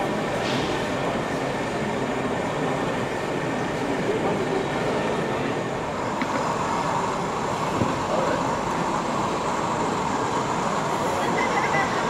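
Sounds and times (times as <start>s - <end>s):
crowd talking in a hall: 0.0s - 12.0s.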